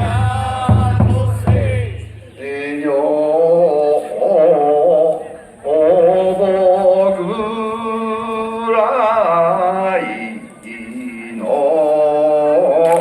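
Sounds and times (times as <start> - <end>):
man singing slow drawn-out notes: 0.0 - 13.0.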